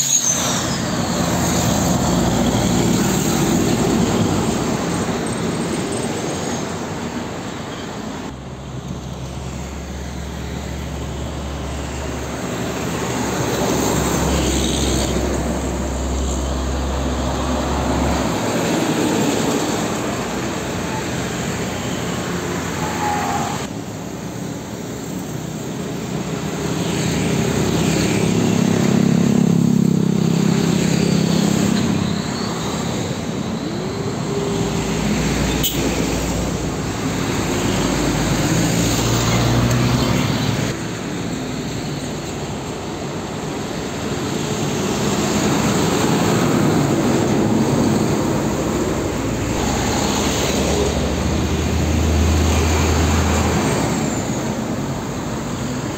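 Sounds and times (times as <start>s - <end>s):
diesel trucks passing: 0.0s - 55.9s
road traffic: 0.0s - 55.9s.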